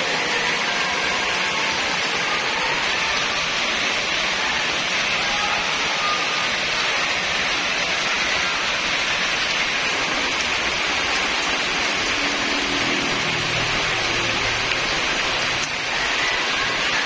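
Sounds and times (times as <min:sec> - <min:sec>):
rain falling steadily: 0:00.0 - 0:17.0.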